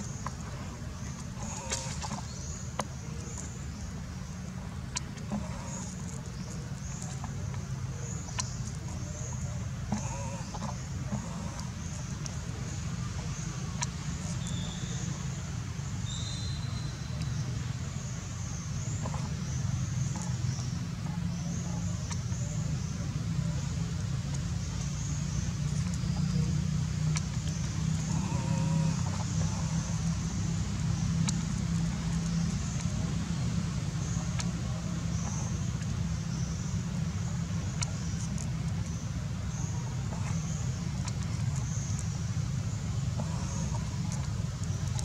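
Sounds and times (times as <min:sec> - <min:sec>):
low background rumble: 0:00.0 - 0:45.0.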